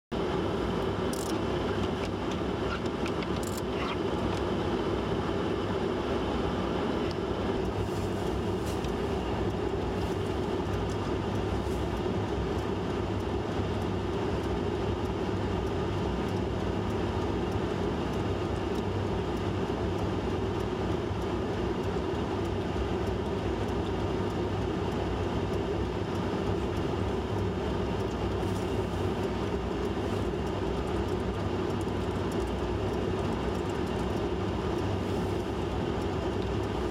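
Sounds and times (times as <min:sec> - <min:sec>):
vehicle engine rumble: 0:00.1 - 0:36.9.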